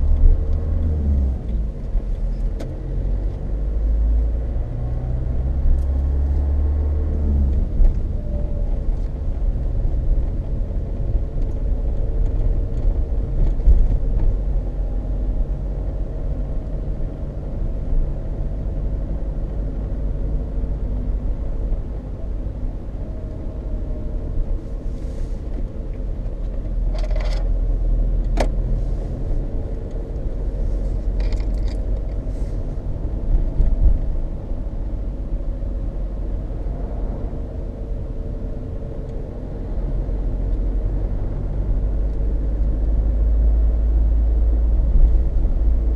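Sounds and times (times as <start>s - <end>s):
tyre road noise droning: 0.0s - 45.9s.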